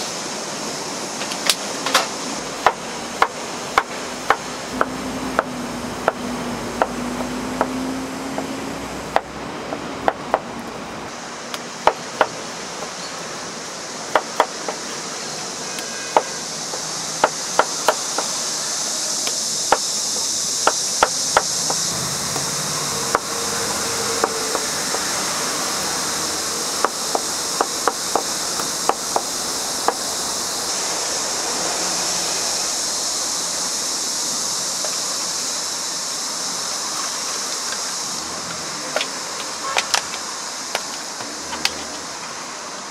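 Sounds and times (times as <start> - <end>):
steady high-pitched hiss: 0.0 - 42.9.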